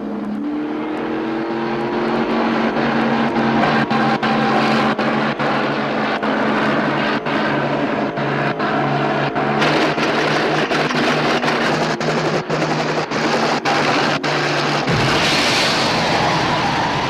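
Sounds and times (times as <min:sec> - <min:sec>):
helicopter engine and rotors: 0:00.0 - 0:15.3
car engine: 0:00.0 - 0:17.0.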